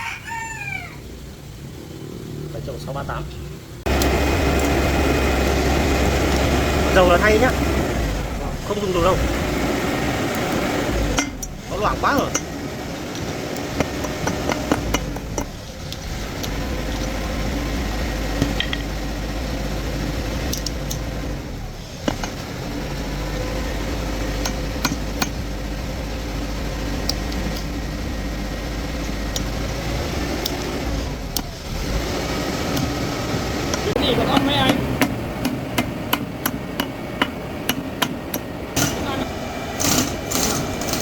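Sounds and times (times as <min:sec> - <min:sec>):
low machine hum: 0:02.7 - 0:41.0.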